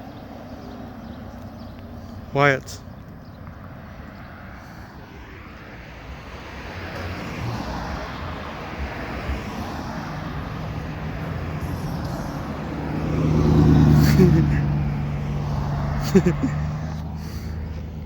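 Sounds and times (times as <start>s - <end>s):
low engine hum: 0.0s - 18.0s
vehicle passing: 0.0s - 18.0s.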